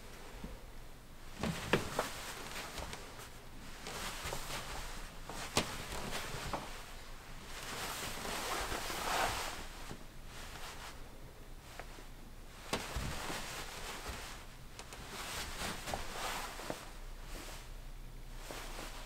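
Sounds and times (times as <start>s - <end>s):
clothing rustling: 1.2s - 19.0s
shuffling steps in slippers: 1.4s - 11.0s, 11.6s - 19.0s.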